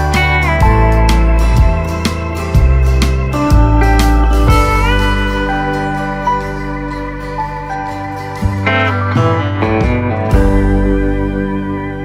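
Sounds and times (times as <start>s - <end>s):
music with bass and beat: 0.0s - 12.0s
organ-like chords: 0.0s - 12.0s
slide guitar: 0.0s - 12.0s.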